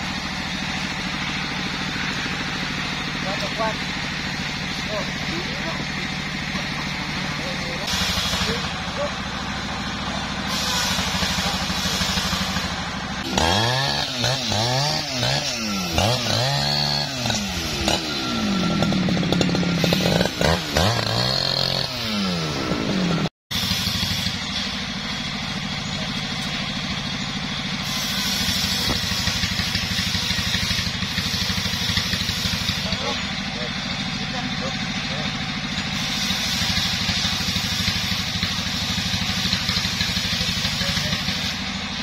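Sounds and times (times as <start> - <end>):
chainsaw revving: 0.0 - 42.0
engine running steadily: 0.0 - 42.0.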